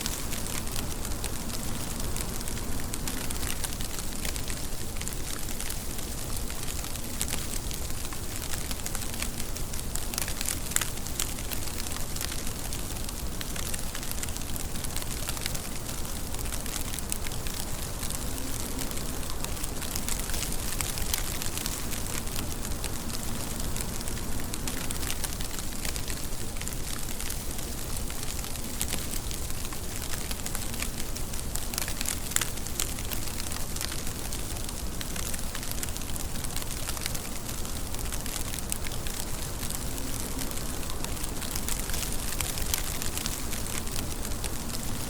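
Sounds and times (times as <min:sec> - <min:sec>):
rain hiss with patter of drops: 0:00.0 - 0:45.0.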